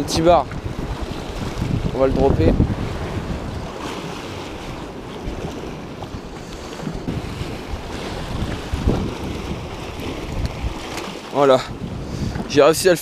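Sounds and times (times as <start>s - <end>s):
waves washing against rocks: 0.0s - 13.0s
wind buffeting microphone: 0.0s - 13.0s.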